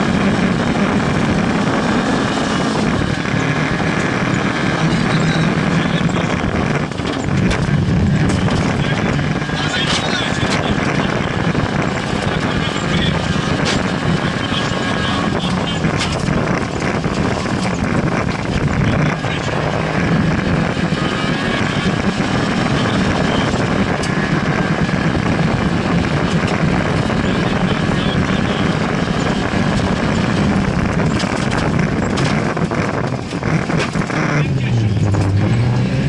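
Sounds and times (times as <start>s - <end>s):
rally car engine from inside: 0.0s - 36.0s
road and cabin noise: 0.0s - 36.0s.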